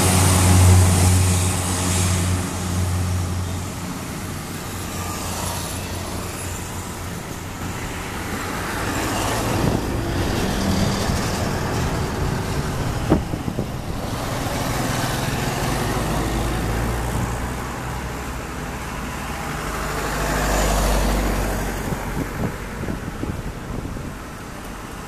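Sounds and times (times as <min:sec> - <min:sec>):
turboprop plane taking off: 0:00.0 - 0:24.1.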